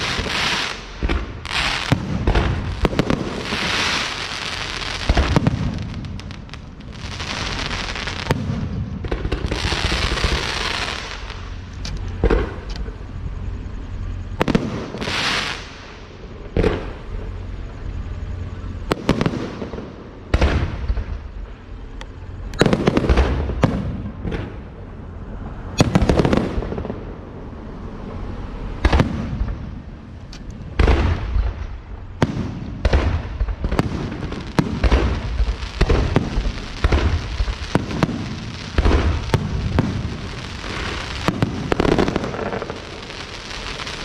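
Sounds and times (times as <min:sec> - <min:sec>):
fireworks bangs: 0:00.0 - 0:44.0
fireworks crackling: 0:00.0 - 0:44.0.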